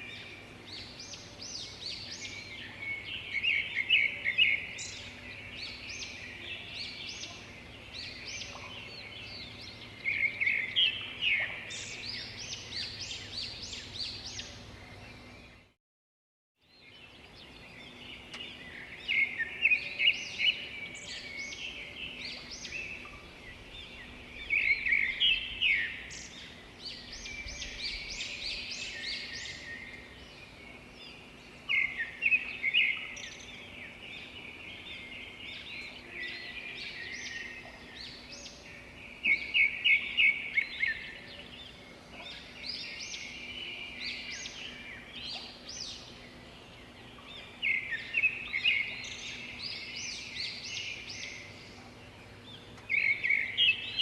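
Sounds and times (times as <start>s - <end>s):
songbirds chirping and singing: 0.0s - 15.8s, 16.7s - 54.0s.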